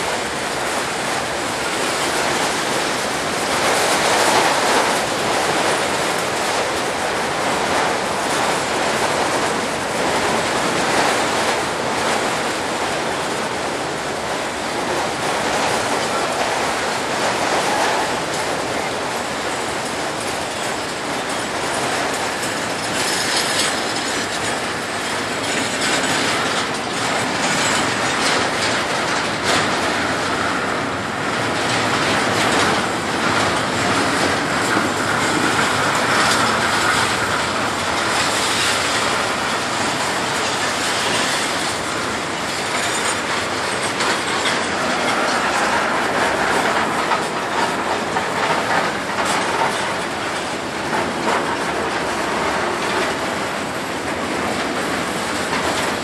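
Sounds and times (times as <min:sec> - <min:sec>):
freight train rumbling: 0:00.0 - 0:56.0
wheels clattering over rail joints: 0:00.0 - 0:56.0.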